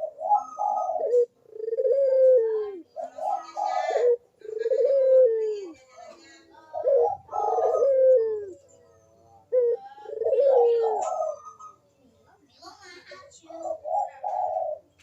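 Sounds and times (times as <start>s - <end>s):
dove cooing: 0.0s - 11.9s, 13.5s - 14.9s.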